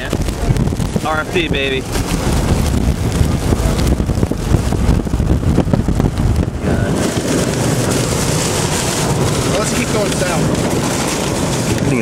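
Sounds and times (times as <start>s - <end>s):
rain hiss: 0.0s - 12.0s
road noise: 0.0s - 12.0s
storm wind buffeting car: 0.0s - 12.0s.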